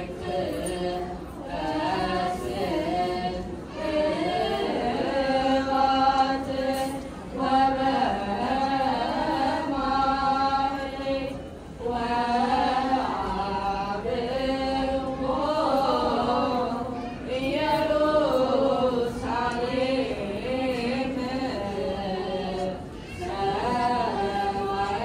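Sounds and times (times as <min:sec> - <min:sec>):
choir chanting in unison: 0:00.0 - 0:25.0.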